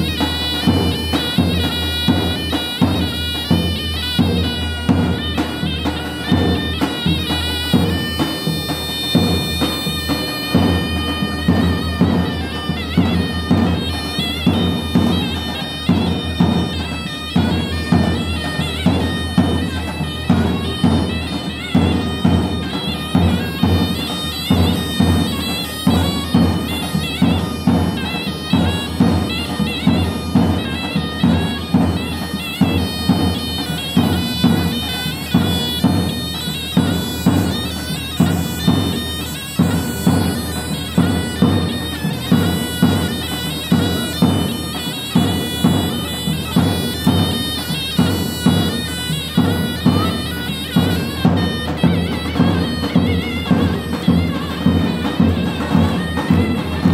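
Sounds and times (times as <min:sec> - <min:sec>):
steady drum beat: 0:00.0 - 0:56.9
zurna playing folk dance tune: 0:00.0 - 0:56.9.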